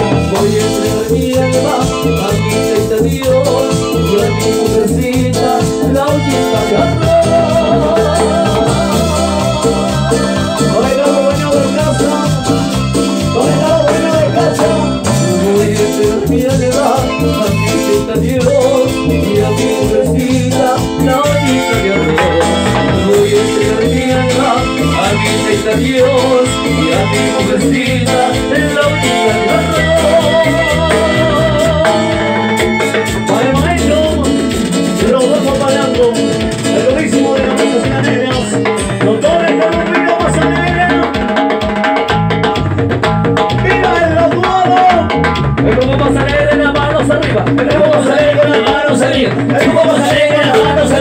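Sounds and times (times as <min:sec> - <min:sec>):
person singing: 0:00.0 - 0:42.2, 0:43.5 - 0:51.0
latin dance band playing: 0:00.0 - 0:51.0
timbales and bass beat: 0:00.0 - 0:51.0.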